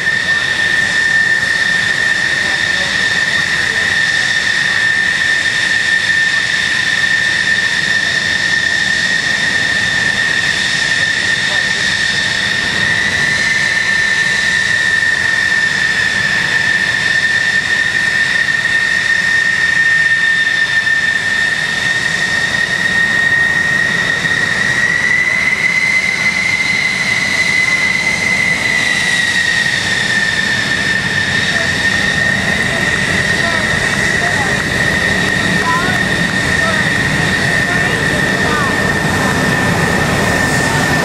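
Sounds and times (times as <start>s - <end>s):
jet engine whine and rumble: 0.0s - 41.0s.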